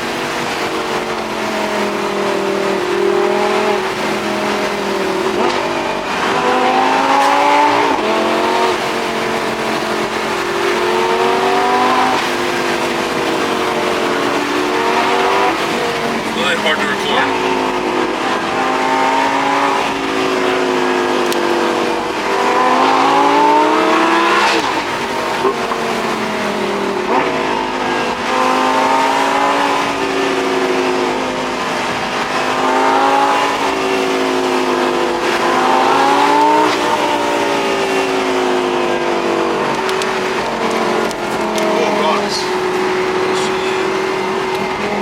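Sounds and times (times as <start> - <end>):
sports car engine accelerating: 0.0 - 45.0.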